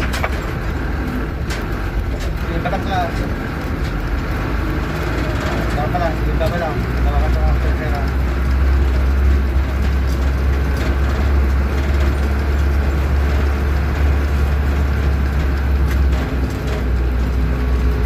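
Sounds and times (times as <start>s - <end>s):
truck engine droning: 0.0s - 18.0s.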